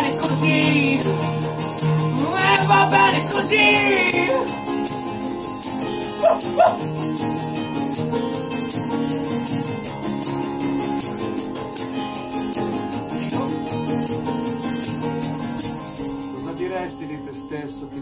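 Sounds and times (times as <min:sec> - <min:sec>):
shaker rhythm: 0:00.0 - 0:16.4
acoustic guitars strumming: 0:00.0 - 0:18.0.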